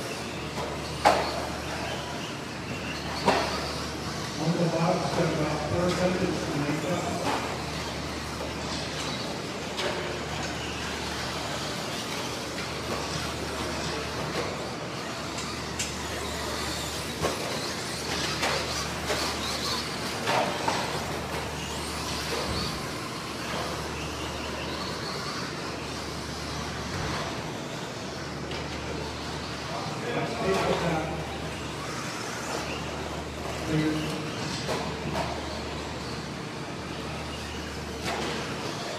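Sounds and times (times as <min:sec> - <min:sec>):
rc truck motor whine: 0:00.0 - 0:38.9.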